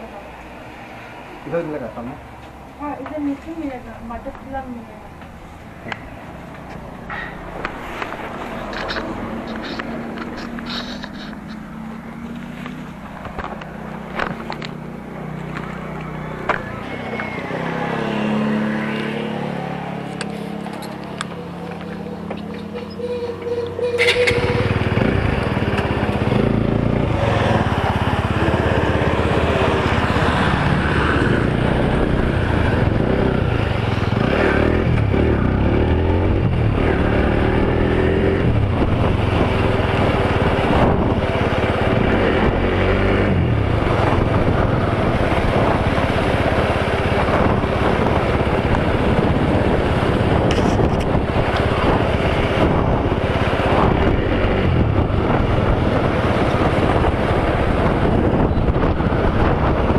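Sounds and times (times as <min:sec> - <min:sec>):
motorcycle engine revving: 0:05.4 - 0:59.9.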